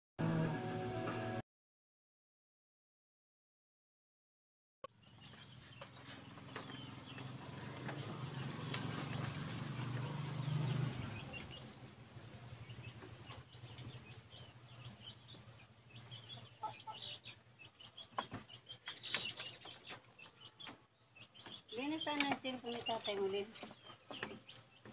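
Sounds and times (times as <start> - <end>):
small birds chirping: 4.9 - 24.9.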